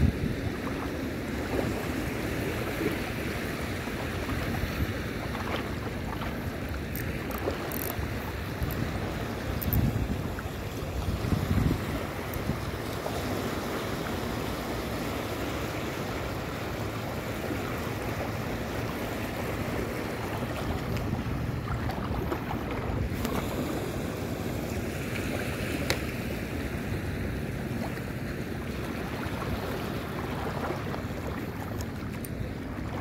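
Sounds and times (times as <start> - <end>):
small waves washing on shore: 0.0 - 33.0
wind rumbling on microphone: 0.0 - 33.0.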